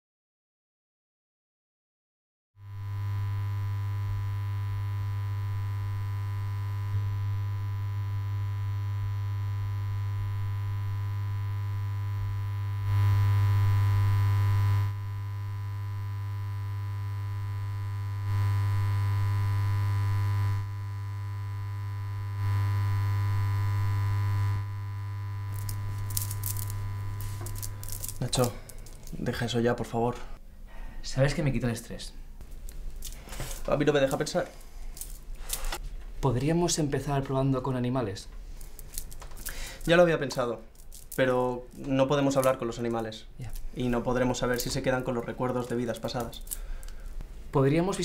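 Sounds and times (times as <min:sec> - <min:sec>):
electrical hum with static hiss: 0:02.6 - 0:48.0.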